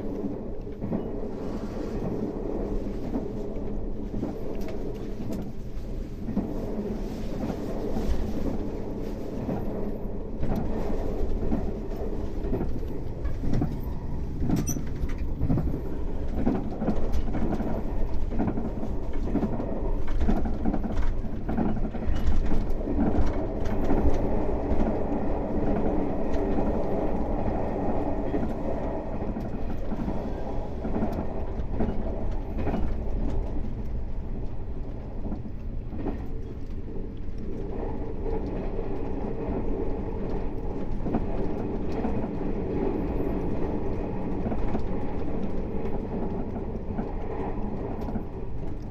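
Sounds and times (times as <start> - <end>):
train wheels rumbling: 0.0 - 48.9.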